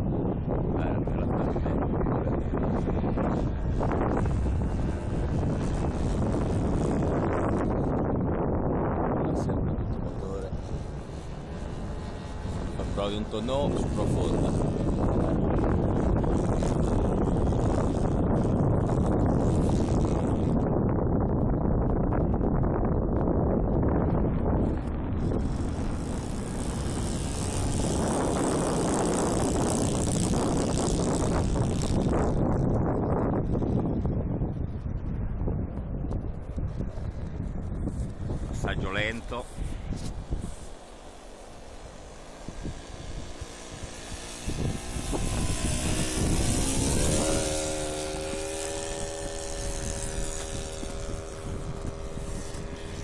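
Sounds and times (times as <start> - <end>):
model airplane engine whining: 0.0 - 53.0.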